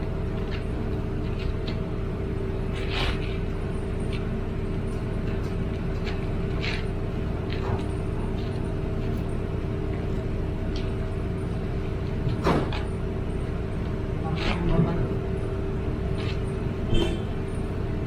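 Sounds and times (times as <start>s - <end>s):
vehicle rumble and hum: 0.0s - 18.0s.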